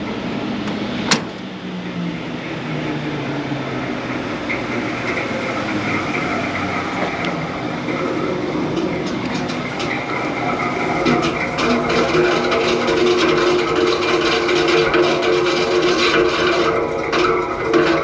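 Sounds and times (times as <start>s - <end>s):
fan grinding rumble: 0.0s - 18.0s.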